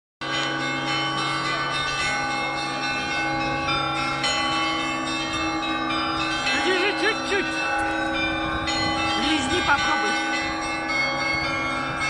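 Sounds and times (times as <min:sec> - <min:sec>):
church bells ringing: 0:00.2 - 0:12.0.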